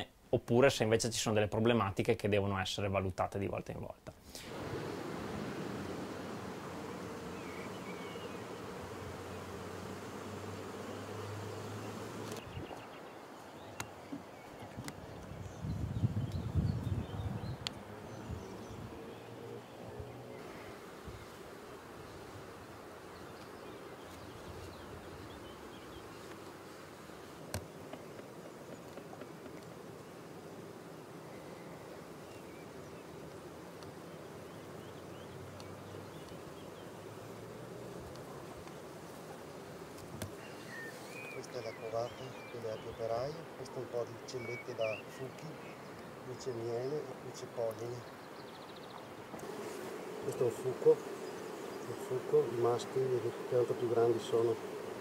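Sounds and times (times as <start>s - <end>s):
honeybees buzzing: 4.2s - 55.0s.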